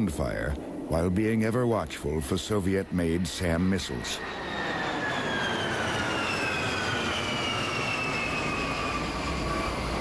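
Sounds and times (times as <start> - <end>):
jet engines whining: 0.0 - 10.0.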